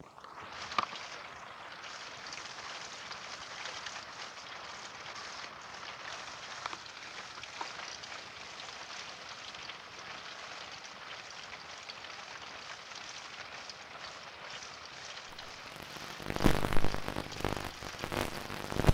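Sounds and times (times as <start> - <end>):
steady rainfall: 0.1 - 18.9.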